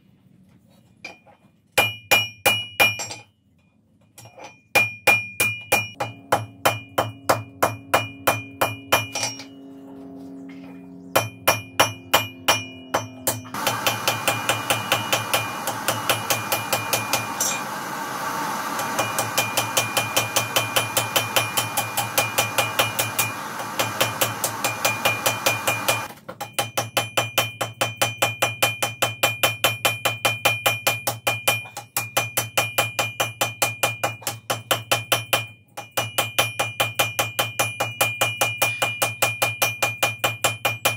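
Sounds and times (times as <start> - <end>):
hammer striking iron on anvil: 1.8 - 3.3, 4.2 - 9.6, 11.1 - 40.9.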